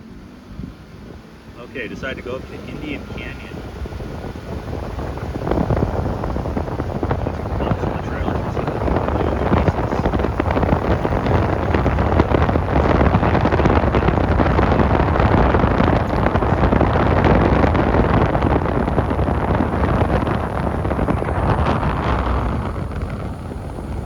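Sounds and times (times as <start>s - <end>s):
car road noise: 0.0s - 24.0s
wind buffeting microphone: 0.0s - 24.0s.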